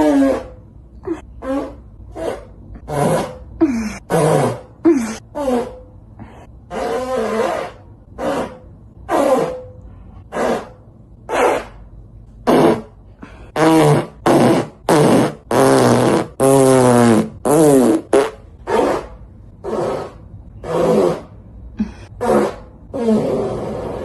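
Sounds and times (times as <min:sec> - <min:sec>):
fart sounds: 0:00.0 - 0:05.8, 0:06.7 - 0:09.7, 0:10.3 - 0:11.8, 0:12.4 - 0:24.0.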